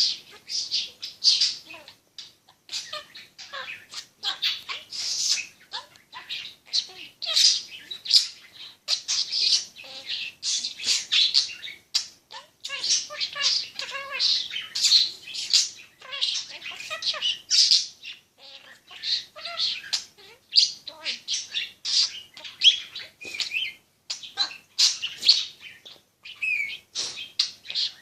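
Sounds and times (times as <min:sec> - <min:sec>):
parrot chattering and squawking: 0:00.0 - 0:28.0.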